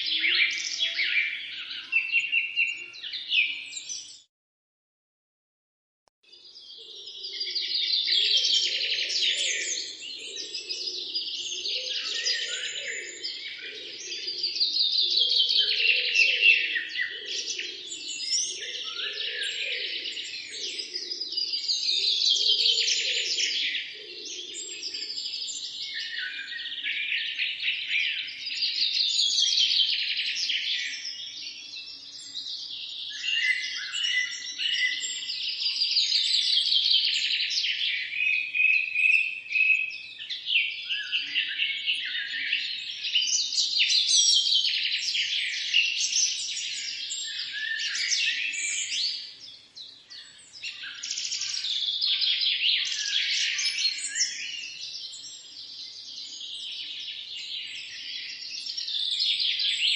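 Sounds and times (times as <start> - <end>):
songbirds singing: 0.0 - 4.3, 6.3 - 59.9.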